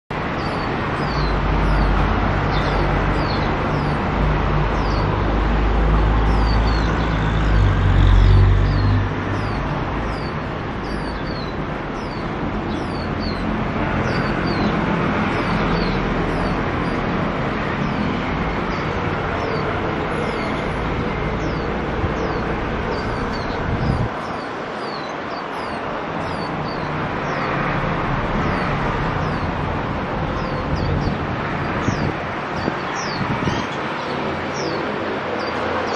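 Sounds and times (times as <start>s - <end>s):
road traffic rumble: 0.1s - 35.9s.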